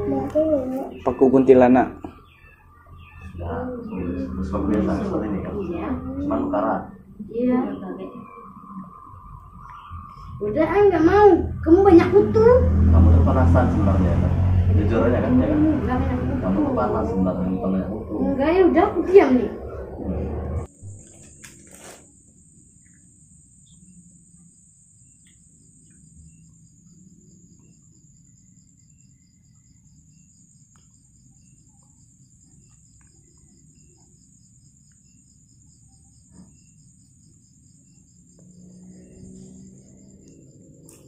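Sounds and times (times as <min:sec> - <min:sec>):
continuous high insect trill: 0:00.0 - 0:19.6, 0:20.6 - 0:41.0
rapidly pulsing insect trill: 0:00.9 - 0:41.0.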